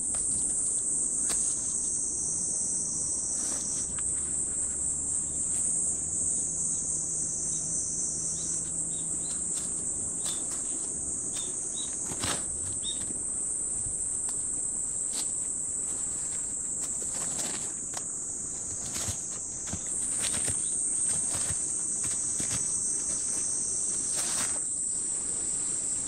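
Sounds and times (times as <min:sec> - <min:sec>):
high-pitched insect chorus: 0:00.0 - 0:26.0
short insect chirps: 0:00.0 - 0:26.0.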